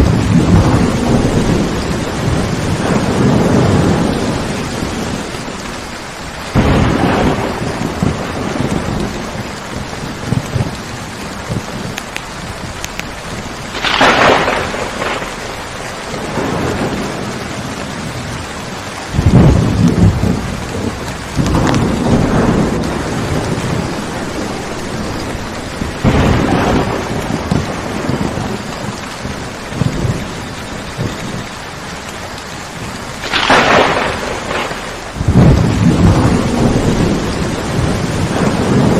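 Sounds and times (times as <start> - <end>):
heavy rain: 0.0 - 38.9
thunder rolling and cracking: 0.0 - 38.9.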